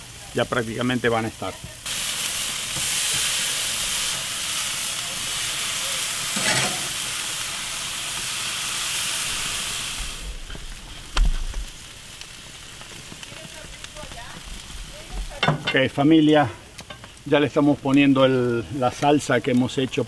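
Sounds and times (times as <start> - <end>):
steaks sizzling on a grill: 0.0 - 20.0.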